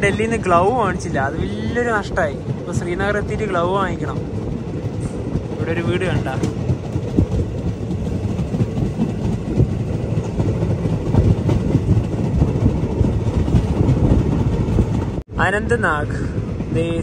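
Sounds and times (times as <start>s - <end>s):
train rattle and clatter: 0.0s - 17.0s
train wheels rumbling on rails: 0.0s - 17.0s.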